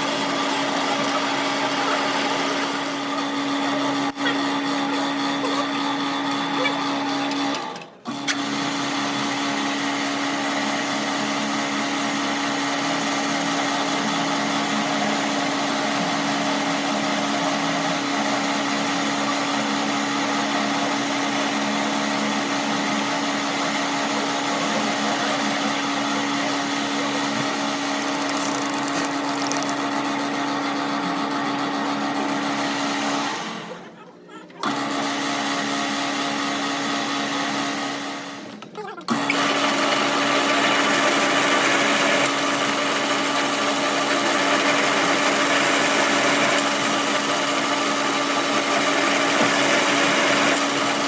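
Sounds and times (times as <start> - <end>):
power tool motor running: 0.0 - 34.0, 34.6 - 51.0.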